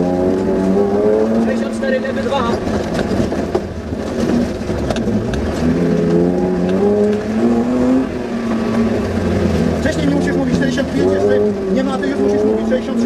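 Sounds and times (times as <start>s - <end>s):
car engine revving: 0.0s - 13.0s
knocks and rattles: 0.2s - 13.0s.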